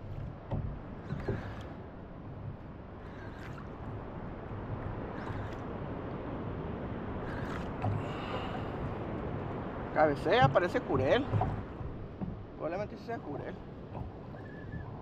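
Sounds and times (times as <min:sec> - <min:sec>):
water sloshing against hull: 0:00.0 - 0:15.0
wind rumbling on microphone: 0:00.0 - 0:15.0.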